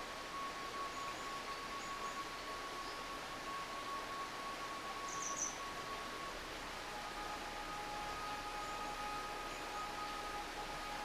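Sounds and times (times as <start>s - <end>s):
stream rushing: 0.0s - 11.0s
faint high held tones: 0.3s - 11.0s.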